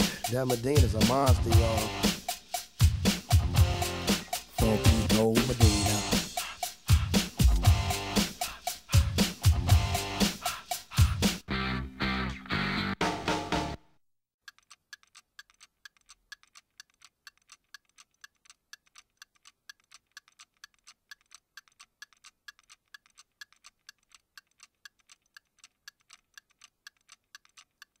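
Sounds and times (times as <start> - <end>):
clock ticking: 0.0 - 11.4, 14.4 - 28.0.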